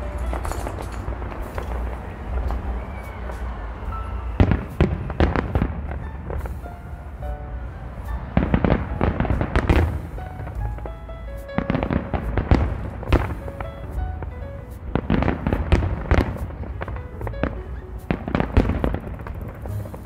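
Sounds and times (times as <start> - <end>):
firework shells bursting: 0.0 - 6.8, 8.4 - 14.0, 14.6 - 20.0
music: 0.0 - 20.0.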